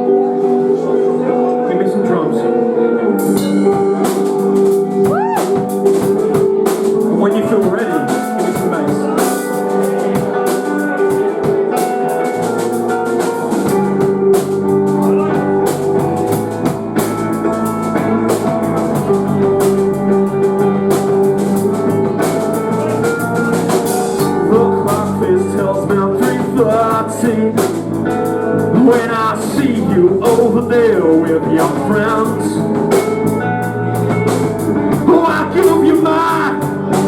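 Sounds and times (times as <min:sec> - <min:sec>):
bass guitar: 0:00.0 - 0:37.0
electric guitar: 0:00.0 - 0:37.0
drum kit: 0:03.1 - 0:37.0.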